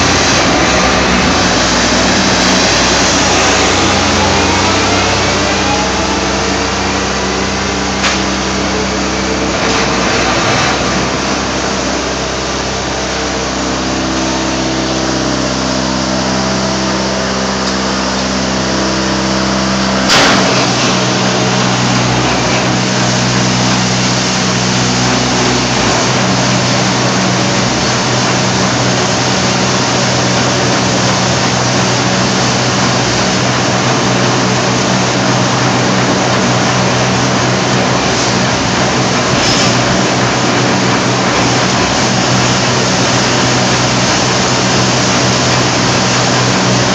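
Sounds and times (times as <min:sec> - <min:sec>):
machine hum with pitched tones: 0:00.0 - 0:46.9.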